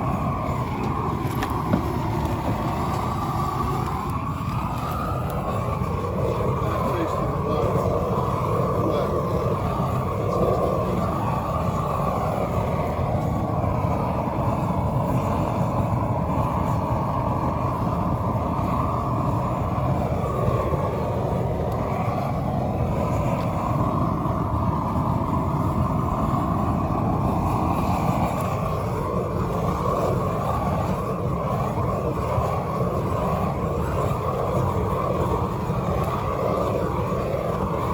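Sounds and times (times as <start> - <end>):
flame thrower roaring: 0.0 - 37.9.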